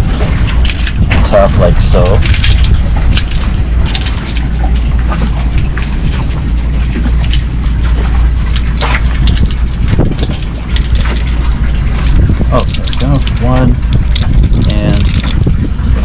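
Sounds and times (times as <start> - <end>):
wind buffeting microphone: 0.0 - 16.0
hoses and fittings clicking: 0.2 - 16.0.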